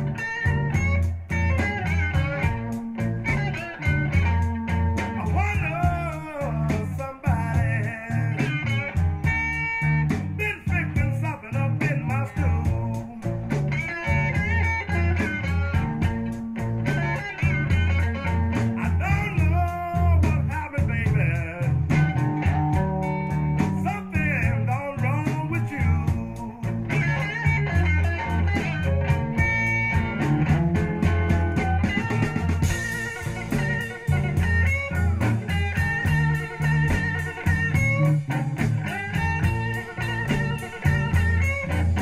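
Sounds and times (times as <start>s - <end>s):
blues-rock music: 0.0s - 42.0s.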